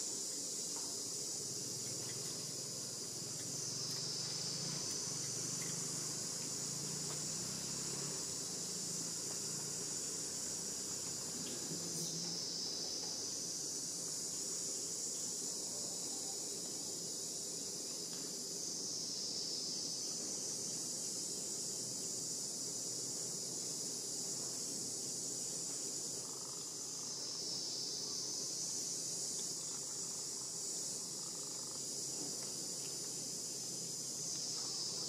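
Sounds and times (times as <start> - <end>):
insects chorus shrill drone: 0.0 - 35.0.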